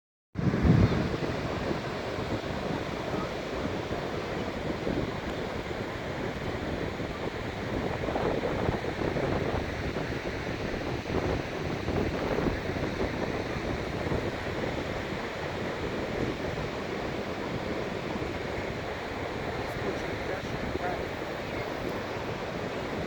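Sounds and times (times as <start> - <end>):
surf washing onto beach: 0.4 - 23.0
wind on microphone: 0.4 - 23.0.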